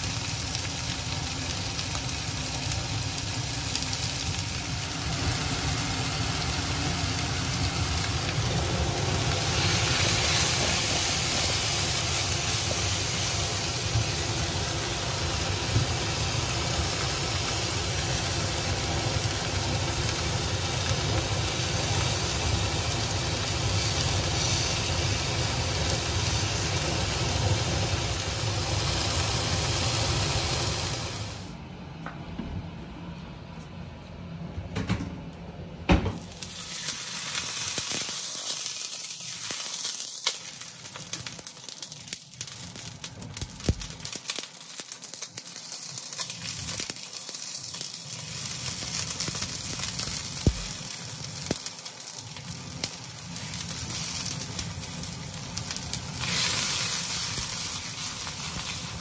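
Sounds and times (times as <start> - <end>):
prawns sizzling in a frying pan: 0.0 - 31.5, 36.2 - 59.0
low mechanical hum: 0.0 - 39.8, 45.8 - 59.0.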